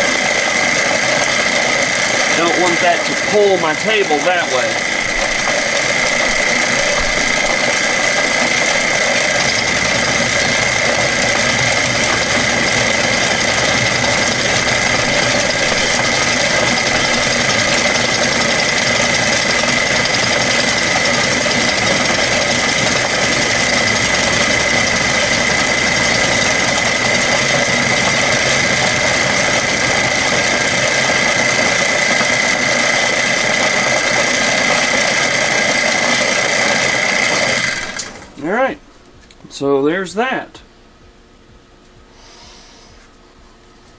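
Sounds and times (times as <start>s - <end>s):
milling machine cutting metal: 0.0s - 38.4s.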